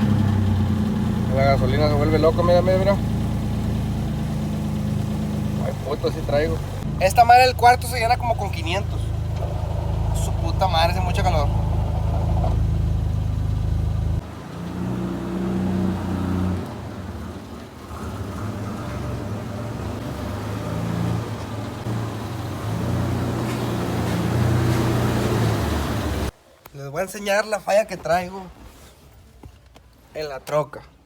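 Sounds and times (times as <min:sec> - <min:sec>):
truck engine running: 0:00.0 - 0:26.3.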